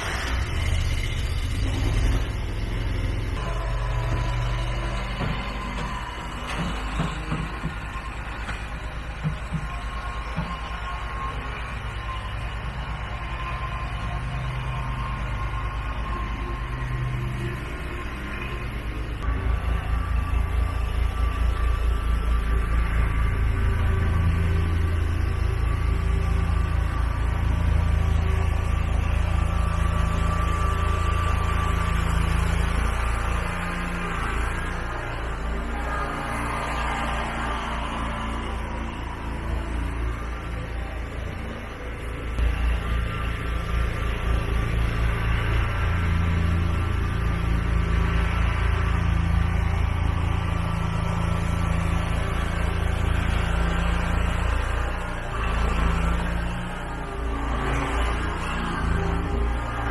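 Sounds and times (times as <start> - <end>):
gas engine running under load: 0.0 - 59.9.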